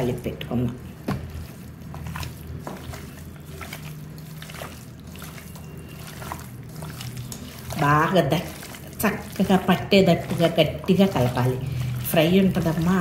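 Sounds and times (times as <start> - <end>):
hand squelching wet meat: 0.0 - 13.0
meat clicking against metal pot: 1.9 - 13.0.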